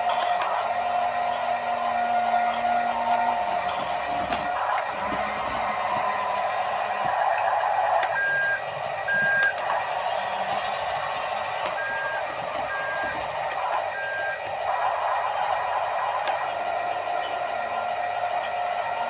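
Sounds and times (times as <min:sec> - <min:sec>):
steady whirring noise: 0:00.0 - 0:19.0
toy reversing beeper: 0:00.3 - 0:19.0.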